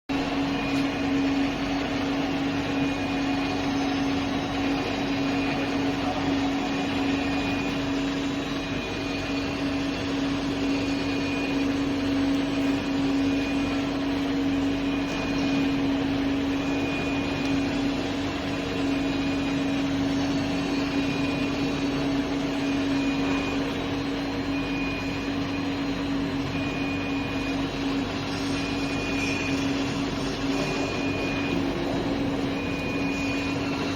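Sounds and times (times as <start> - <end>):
machinery hum with low drone: 0.1 - 33.9
faint pulsing high-pitched tone: 0.2 - 33.9.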